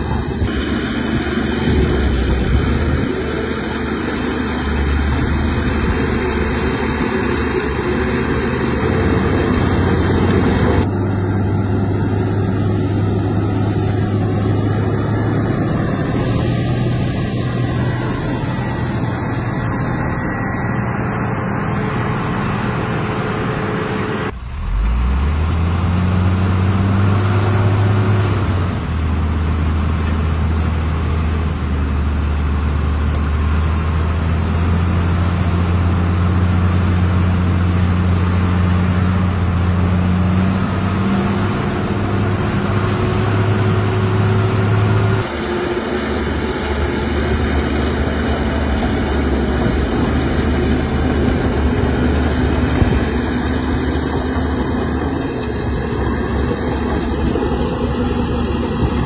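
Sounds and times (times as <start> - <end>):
deeper engine note: 0.0 - 59.0
heavy diesel engines running: 0.0 - 59.0.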